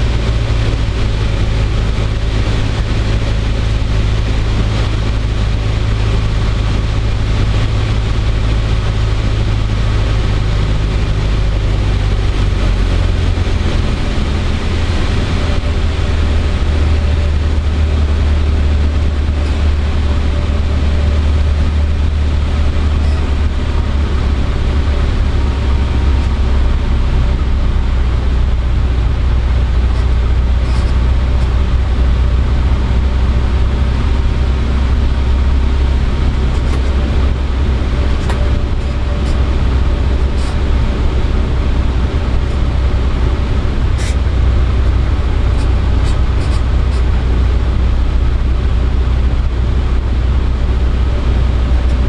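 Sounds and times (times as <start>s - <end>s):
airplane engine and propeller droning: 0.0s - 52.0s.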